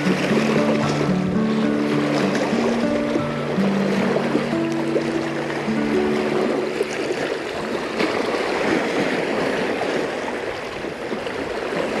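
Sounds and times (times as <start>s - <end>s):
small waves washing against rocks: 0.0s - 12.0s.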